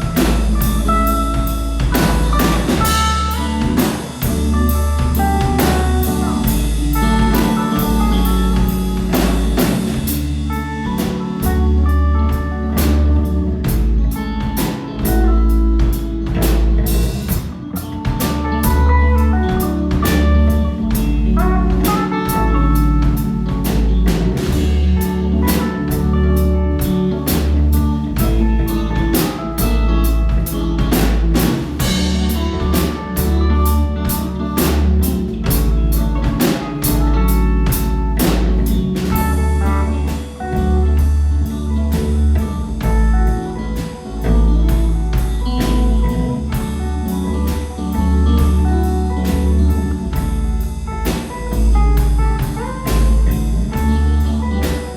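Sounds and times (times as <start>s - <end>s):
drum kit beat with cymbals: 0.0s - 54.9s
low sustained notes: 0.0s - 54.9s.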